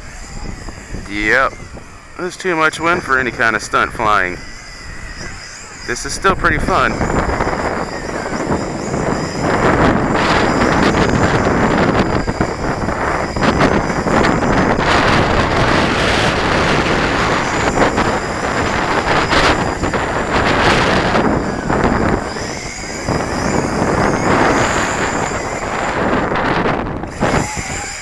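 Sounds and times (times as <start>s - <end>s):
wind gusting across microphone: 0.0s - 28.0s.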